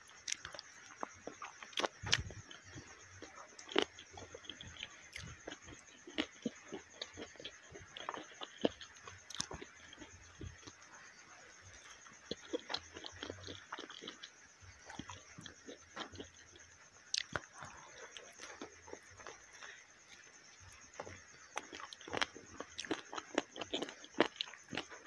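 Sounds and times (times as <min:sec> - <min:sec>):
chewing and biting food: 0:00.2 - 0:11.0, 0:11.7 - 0:25.0.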